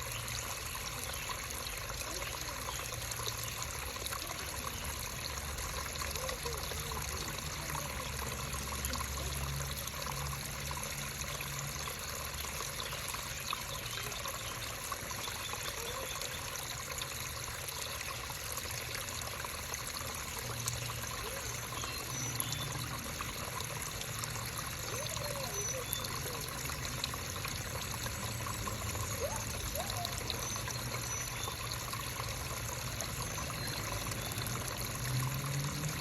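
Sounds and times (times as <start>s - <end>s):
creek water babbling: 0.0s - 36.0s.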